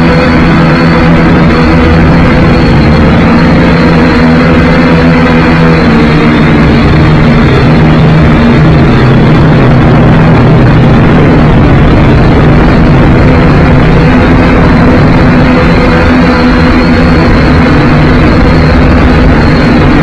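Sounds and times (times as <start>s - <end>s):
quadcopter propellers buzzing: 0.0s - 20.0s
wind noise: 0.0s - 20.0s.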